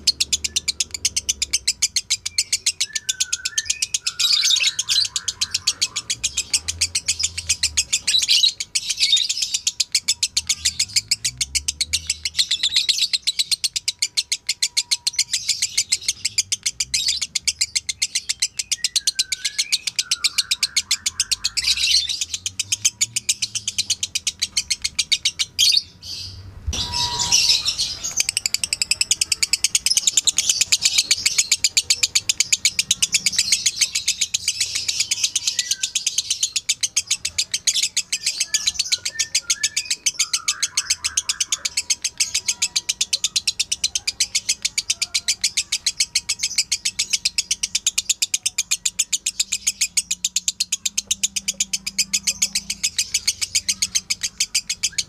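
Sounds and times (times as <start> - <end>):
bird chattering trill: 0.0 - 55.0.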